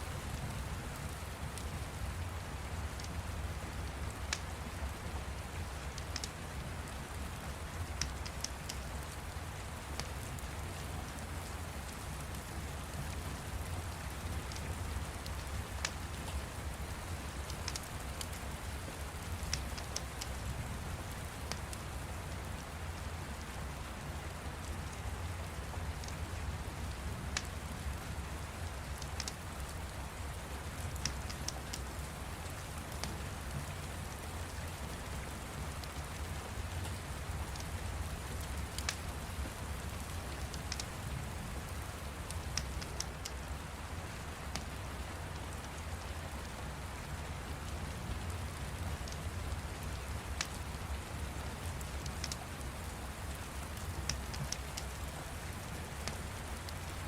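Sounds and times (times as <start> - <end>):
fire crackling: 0.0 - 24.0, 24.6 - 44.8, 45.4 - 57.0
steady rain: 0.0 - 57.0.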